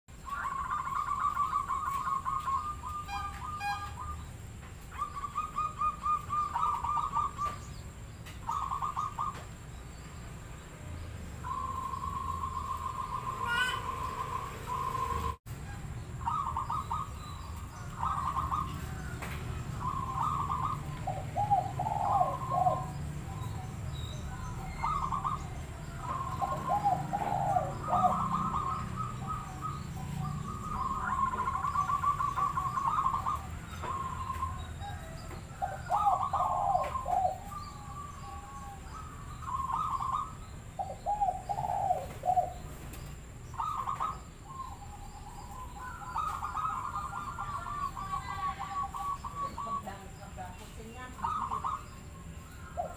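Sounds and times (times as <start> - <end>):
dove cooing: 0.1 - 9.6, 11.4 - 52.9.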